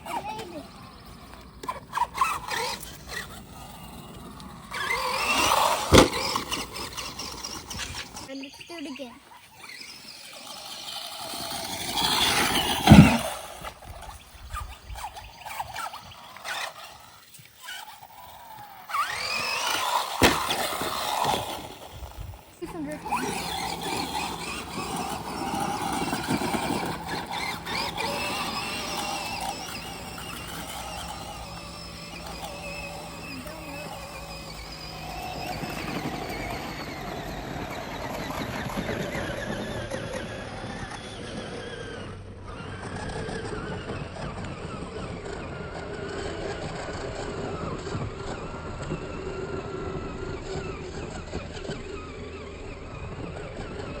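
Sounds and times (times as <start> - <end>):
rc car motor whining: 0.0 - 54.0.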